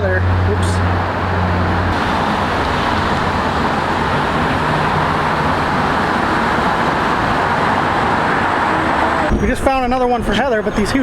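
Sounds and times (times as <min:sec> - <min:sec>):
city traffic hum: 0:00.0 - 0:11.0.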